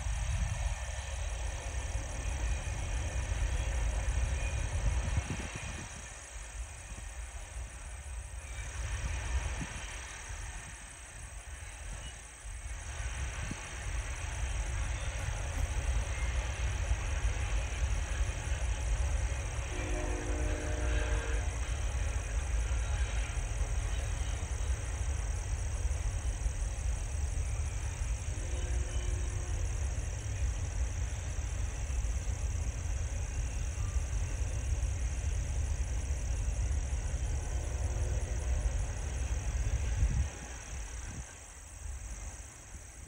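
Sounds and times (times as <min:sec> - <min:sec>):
distant freight train rumbling: 0:00.0 - 0:43.0.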